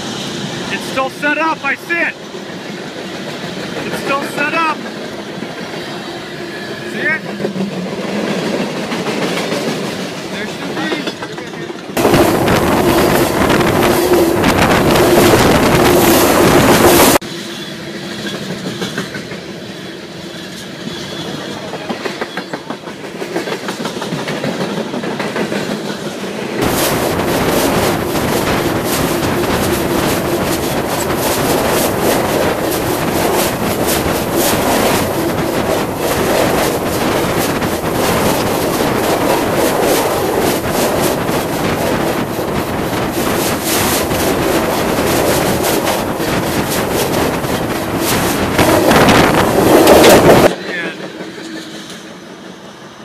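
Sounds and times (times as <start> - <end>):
freight train rolling overhead: 0.0 - 53.0.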